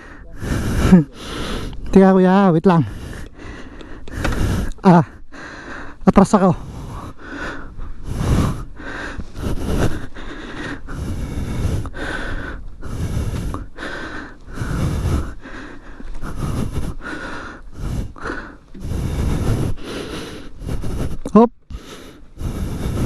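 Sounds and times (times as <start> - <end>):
man breathing heavily: 0.0 - 23.0.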